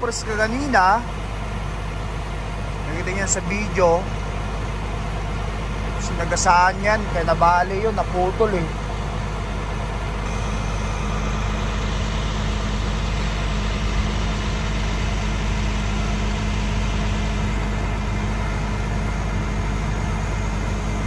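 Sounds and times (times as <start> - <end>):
heavy truck engine idling: 0.0 - 21.0.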